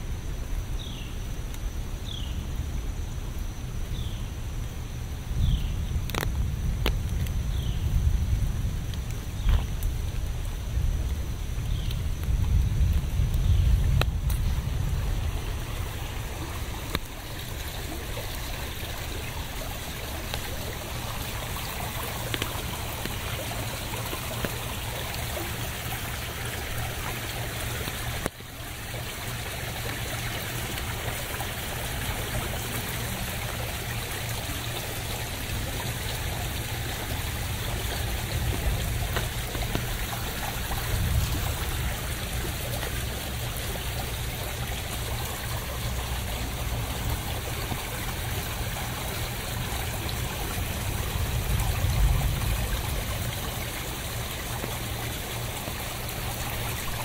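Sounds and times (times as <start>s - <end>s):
steady rain: 0.0s - 57.0s
trickling running water: 0.0s - 57.0s.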